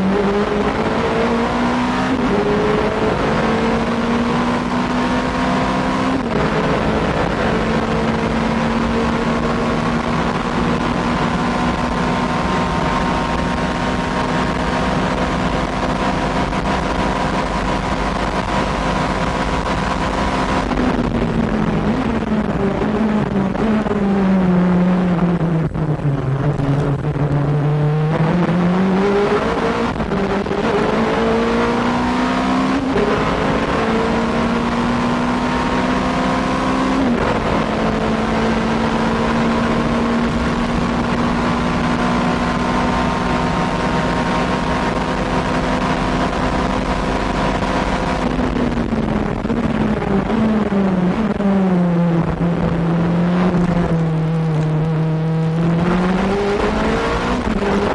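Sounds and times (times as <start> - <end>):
race car engine at full throttle: 0.0 - 57.9.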